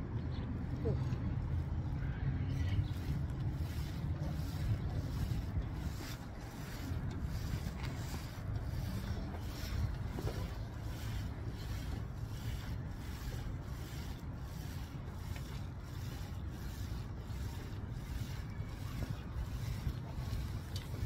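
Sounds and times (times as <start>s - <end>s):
wind rumble on microphone: 0.0s - 21.0s
clothing and plastic wrap rubbing: 3.0s - 21.0s.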